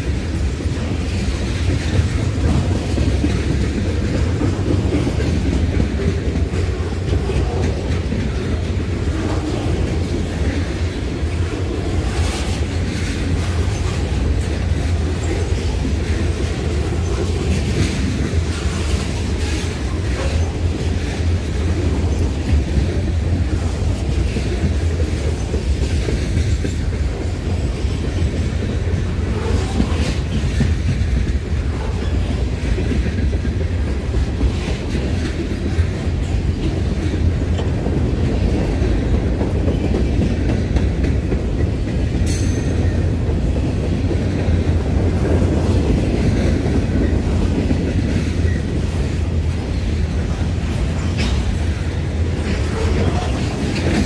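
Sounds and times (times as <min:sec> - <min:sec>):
train wheels rumbling on rail: 0:00.0 - 0:54.0
wheels clickety-clack: 0:00.0 - 0:54.0.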